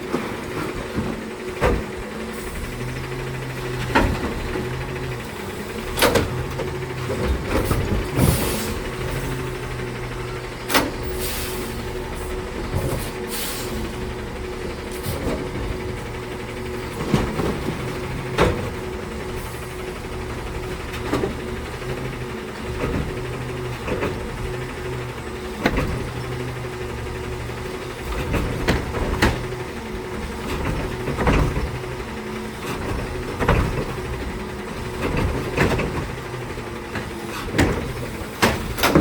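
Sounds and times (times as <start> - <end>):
garbage truck diesel engine: 0.0 - 39.0.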